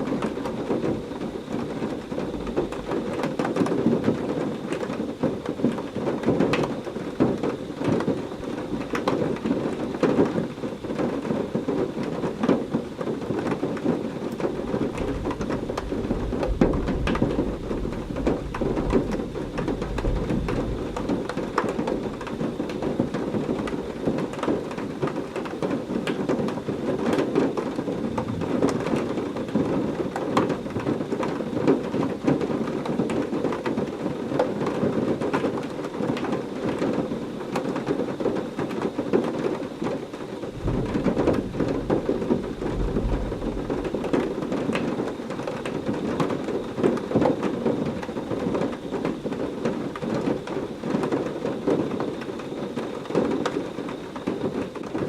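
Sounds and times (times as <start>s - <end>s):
low rumble of thunder: 0.0s - 33.9s, 40.3s - 55.0s
heavy rain falling: 0.0s - 55.0s
raindrops striking close by: 0.0s - 55.0s.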